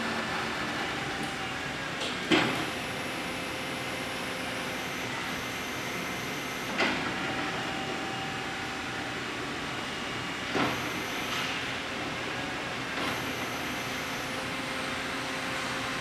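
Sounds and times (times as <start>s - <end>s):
electric drive and hydraulics humming: 0.0s - 16.0s.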